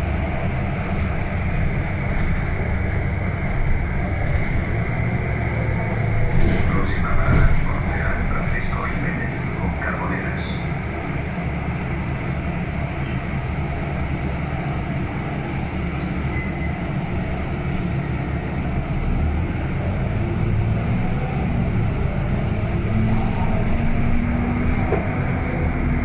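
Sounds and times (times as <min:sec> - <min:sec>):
bus engine low rumble: 0:00.0 - 0:26.0.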